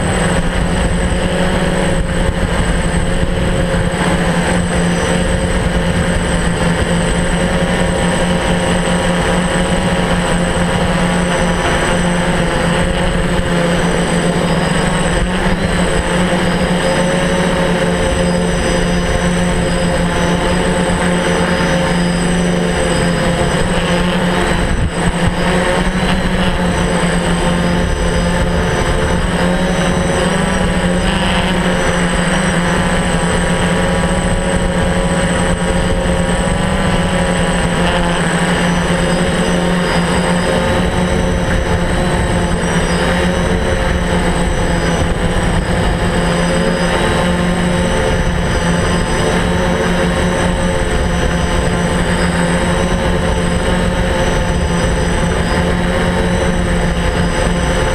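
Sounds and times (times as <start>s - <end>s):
drone motors and propellers: 0.0s - 57.9s.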